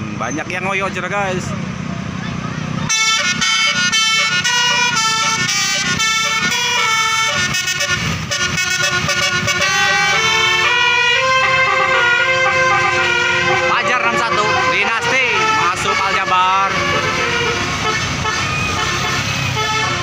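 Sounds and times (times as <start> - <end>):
musical air horn melody: 2.9 - 20.0.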